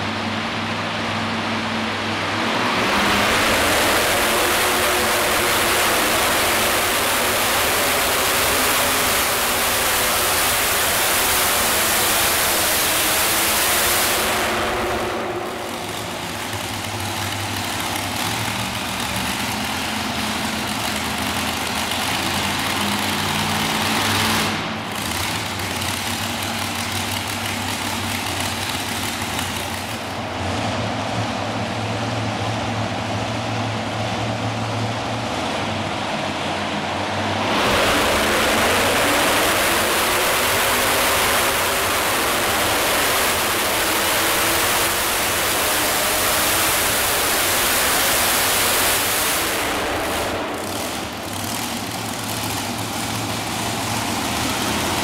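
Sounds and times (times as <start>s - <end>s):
tractor engine at full throttle: 0.0s - 55.0s
tractor engine idling: 0.0s - 55.0s.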